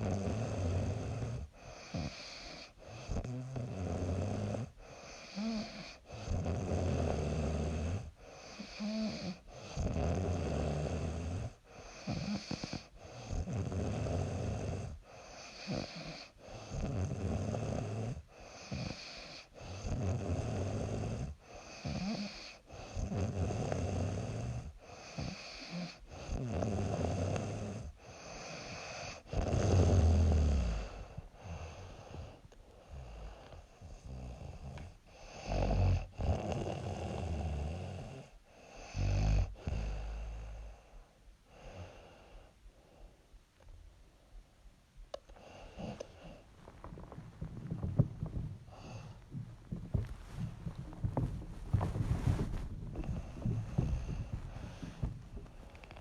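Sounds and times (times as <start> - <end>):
woman snoring: 0.0 - 40.7, 45.4 - 56.0.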